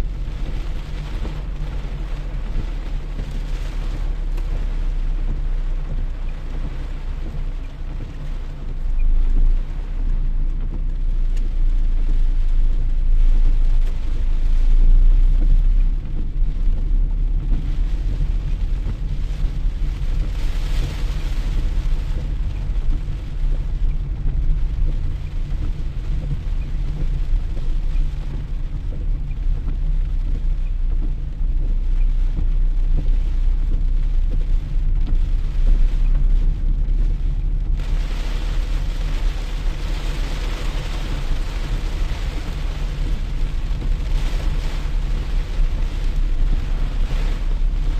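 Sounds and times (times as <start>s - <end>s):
steady rain falling: 0.0s - 47.9s
strong low rumble: 0.0s - 47.9s.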